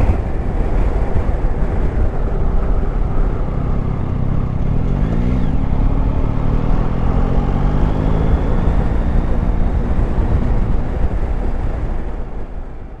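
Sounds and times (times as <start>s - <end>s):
motorcycle engine running: 0.0s - 12.5s
wind rush on microphone: 0.0s - 13.0s.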